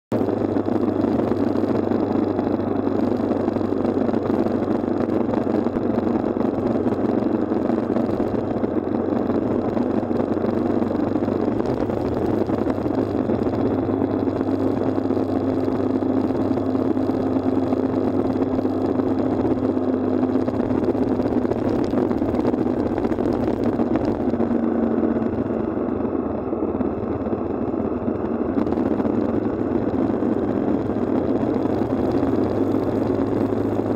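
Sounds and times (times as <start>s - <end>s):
motorcycle engine cruising: 0.2s - 33.9s.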